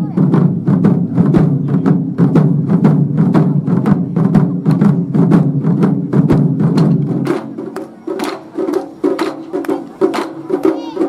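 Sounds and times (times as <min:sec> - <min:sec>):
drum ensemble strikes: 0:00.0 - 0:11.0.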